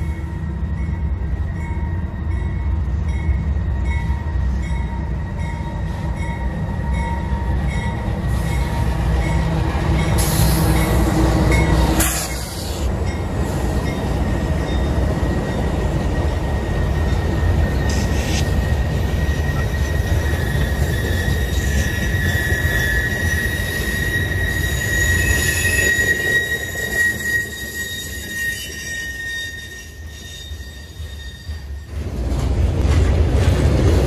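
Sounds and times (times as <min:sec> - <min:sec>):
train wheel squeal: 0:00.0 - 0:32.0
diesel locomotive engine rumble: 0:00.0 - 0:34.0
loud rush of passing locomotives: 0:00.0 - 0:34.0.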